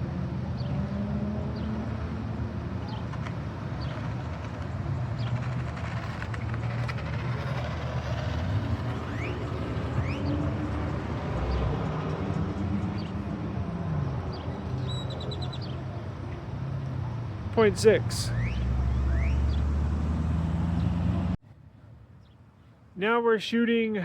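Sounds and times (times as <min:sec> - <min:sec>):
vehicle engine rising and falling: 0:00.0 - 0:21.4
traffic rumble: 0:00.0 - 0:24.0.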